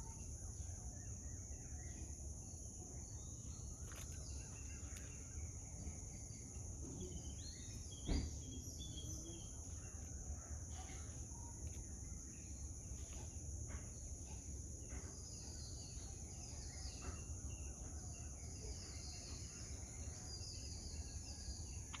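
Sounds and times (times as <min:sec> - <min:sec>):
bird chirps: 0:00.0 - 0:22.0.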